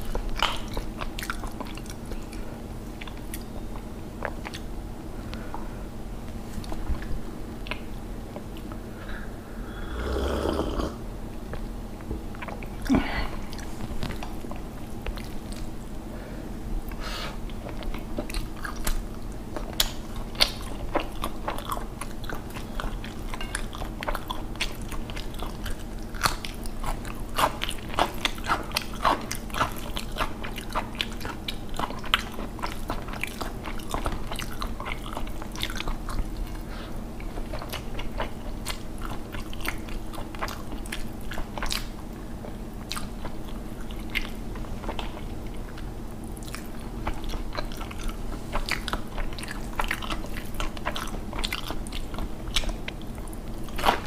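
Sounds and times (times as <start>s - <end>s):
person chewing food: 0.0s - 10.9s, 12.3s - 16.1s, 16.8s - 54.0s
steady low hum: 0.0s - 54.0s.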